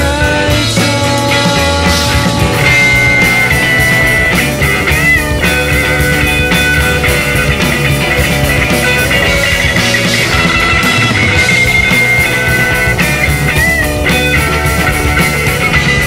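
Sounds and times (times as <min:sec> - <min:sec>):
electric guitar note bending: 0:00.0 - 0:16.0
rock music: 0:00.0 - 0:16.0.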